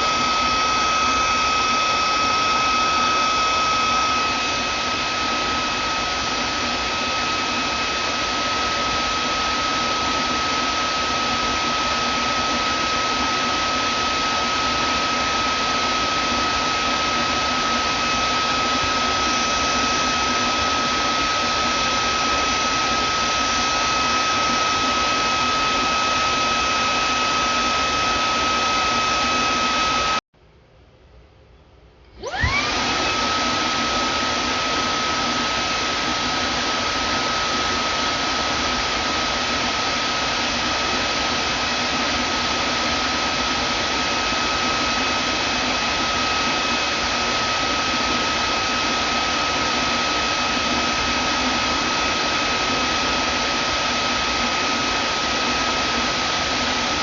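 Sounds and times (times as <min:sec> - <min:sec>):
vacuum cleaner motor whining: 0:00.0 - 0:30.2, 0:32.1 - 0:57.0.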